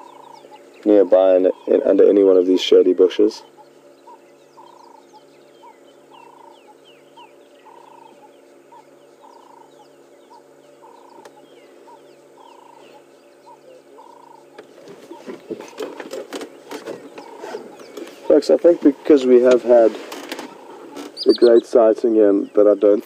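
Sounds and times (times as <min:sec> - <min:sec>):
faint bird chirps: 0:00.0 - 0:19.4, 0:20.5 - 0:23.0
bird calling repeatedly: 0:00.0 - 0:23.0
low steady hum: 0:00.0 - 0:23.0.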